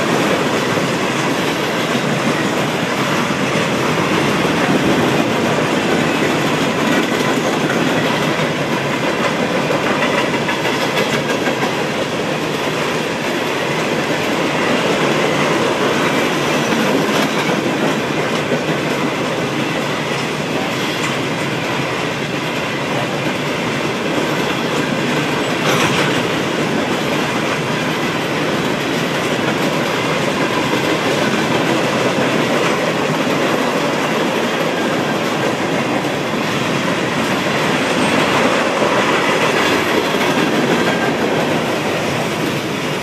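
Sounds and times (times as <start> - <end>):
freight train wheels on rails: 0.0 - 43.0.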